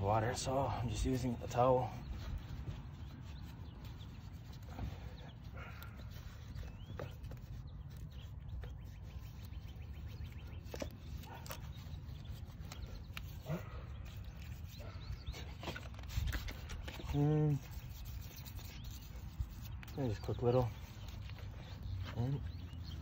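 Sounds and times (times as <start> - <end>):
towel rubbing a wheel: 0.0 - 23.0
bird chirps: 1.2 - 23.0.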